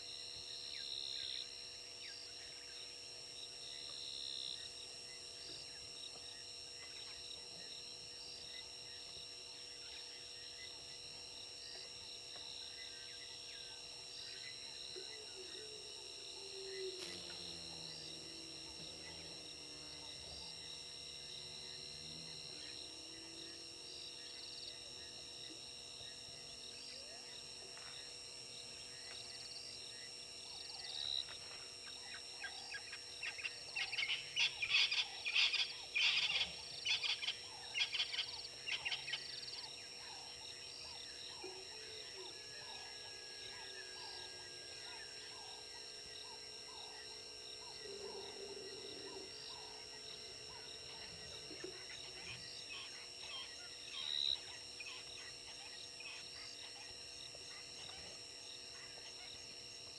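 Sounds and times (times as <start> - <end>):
faint insect drone: 0.0 - 59.9.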